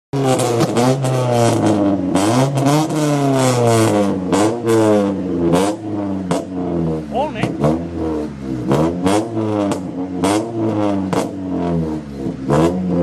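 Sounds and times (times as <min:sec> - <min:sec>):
car engine revving: 0:00.2 - 0:13.0.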